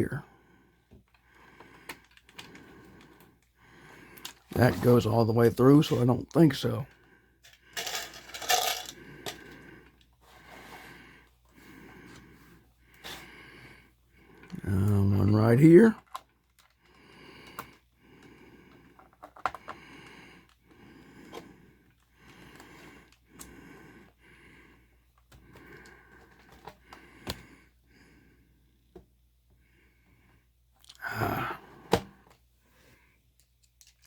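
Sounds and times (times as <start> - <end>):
person breathing: 0.2 - 5.1, 6.8 - 14.7, 16.6 - 28.9, 29.5 - 33.4.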